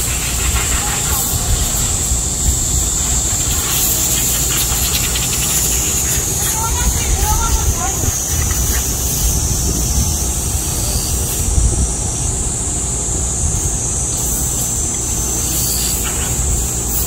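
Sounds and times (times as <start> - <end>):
wind on microphone: 0.0 - 15.4
cicadas buzzing: 0.0 - 17.0.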